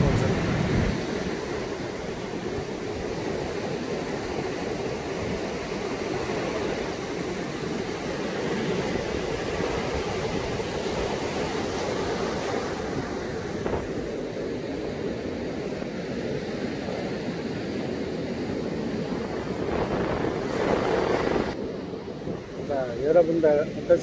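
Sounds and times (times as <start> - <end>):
heavy surf breaking on beach: 0.0 - 24.0.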